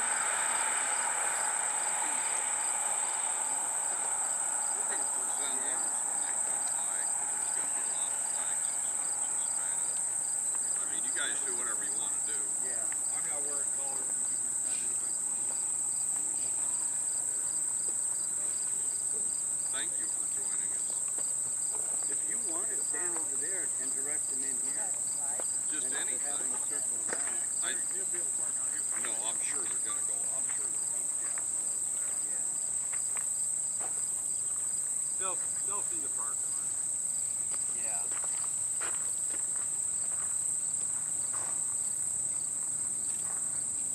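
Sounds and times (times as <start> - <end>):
insect chirping: 0.0 - 43.9
insects trilling: 0.0 - 43.9.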